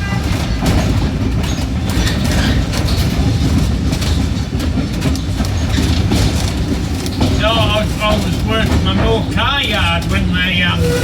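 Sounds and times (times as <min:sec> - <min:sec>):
train rumbling on rails: 0:00.0 - 0:11.0
wheels clattering over track: 0:00.0 - 0:11.0.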